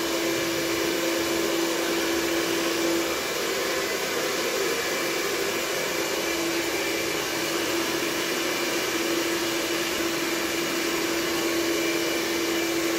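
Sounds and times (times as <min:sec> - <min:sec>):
hair dryer blowing: 0:00.0 - 0:12.9.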